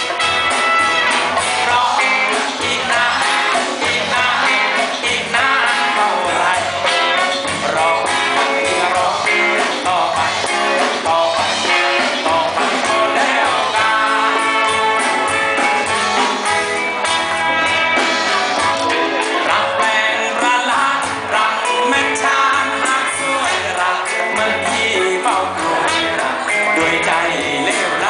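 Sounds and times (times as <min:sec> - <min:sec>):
live band playing: 0:00.0 - 0:28.0
lead vocal singing: 0:01.0 - 0:16.6, 0:18.3 - 0:28.0.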